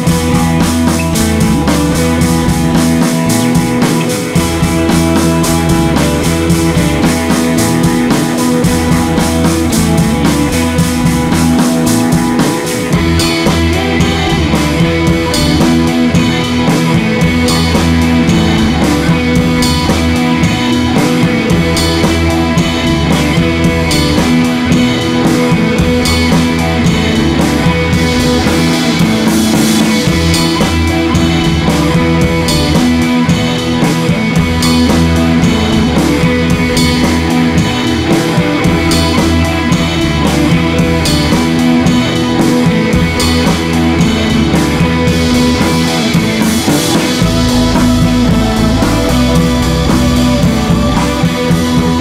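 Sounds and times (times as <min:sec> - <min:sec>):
rock music with guitar and drums: 0:00.0 - 0:52.0.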